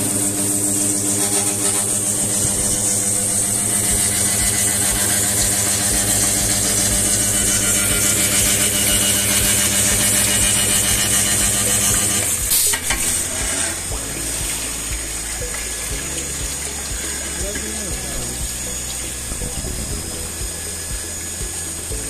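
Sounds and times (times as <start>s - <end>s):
cooling water hissing: 0.0s - 22.0s
welding machine humming: 0.0s - 22.0s.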